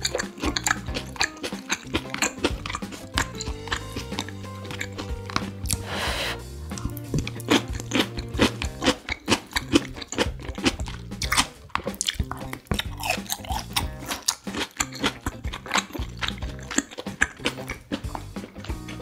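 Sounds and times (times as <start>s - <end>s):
background music: 0.0s - 19.0s
person chewing food: 0.0s - 19.0s.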